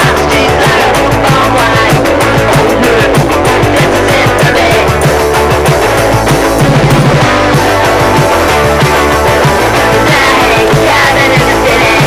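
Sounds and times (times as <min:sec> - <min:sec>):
fast rock music with guitar: 0:00.0 - 0:12.0.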